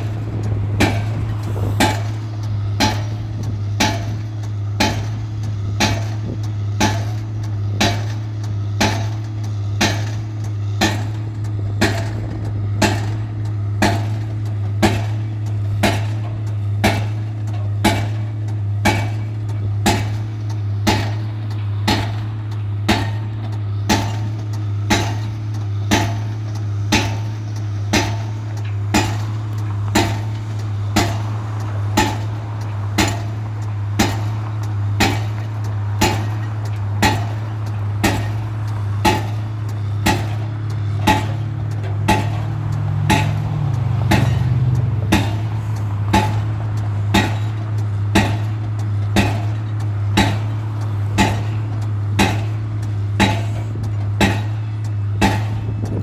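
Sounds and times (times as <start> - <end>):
engine drone: 0.0 - 56.0
pile-driving hammer clanging: 0.0 - 56.0.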